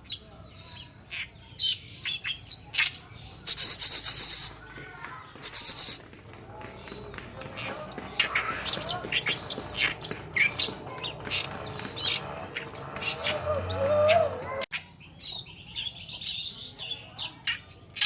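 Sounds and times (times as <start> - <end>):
warbler chattering song: 0.0 - 18.0.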